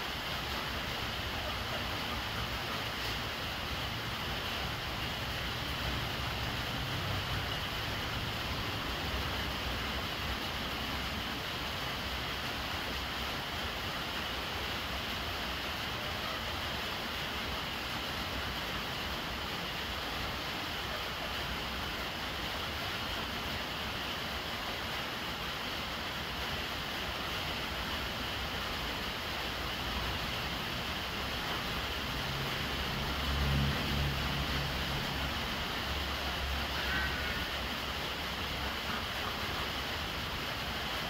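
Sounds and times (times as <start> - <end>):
rain falling on water: 0.0 - 41.0.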